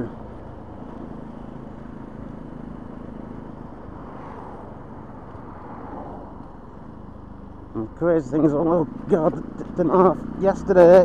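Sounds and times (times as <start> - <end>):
motorcycle engine running: 0.0 - 5.6, 6.2 - 11.0.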